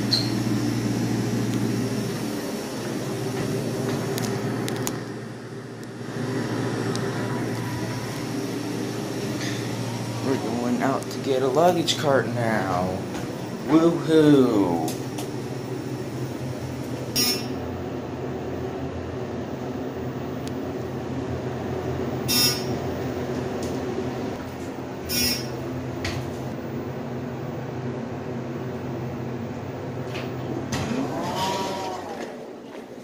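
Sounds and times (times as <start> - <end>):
elevator low hum: 0.0 - 33.0.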